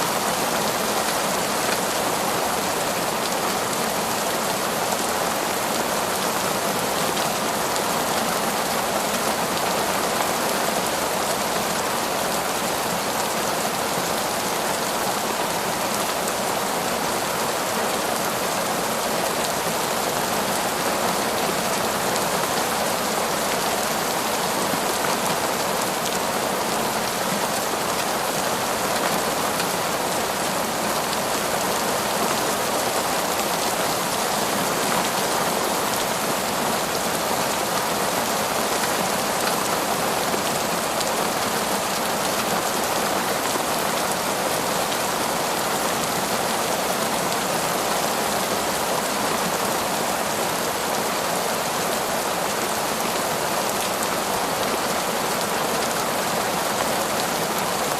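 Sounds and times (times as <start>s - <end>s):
heavy torrential rain: 0.0s - 57.9s.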